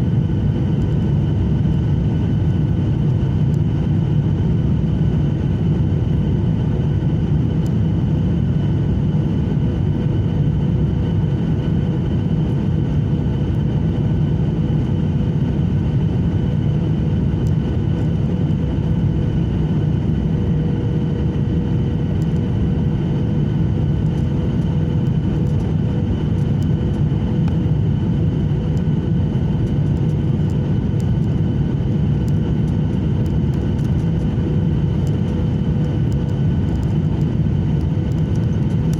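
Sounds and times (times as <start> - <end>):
airplane engine rumble: 0.0 - 38.9
faint steady whines: 0.0 - 38.9.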